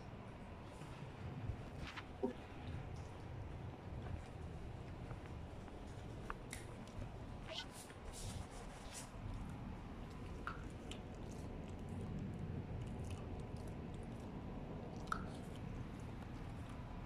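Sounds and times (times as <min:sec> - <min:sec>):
dog chewing: 0:01.7 - 0:17.0.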